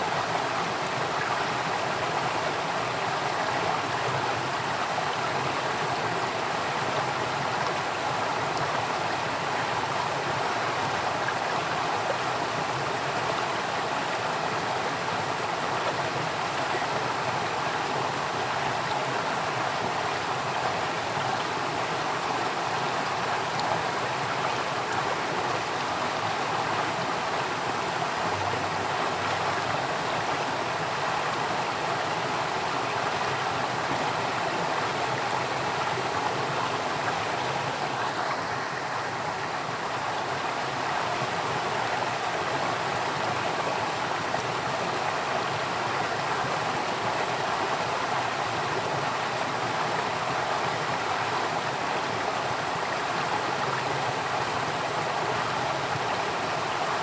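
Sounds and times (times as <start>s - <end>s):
water flowing in a stream: 0.0s - 57.0s.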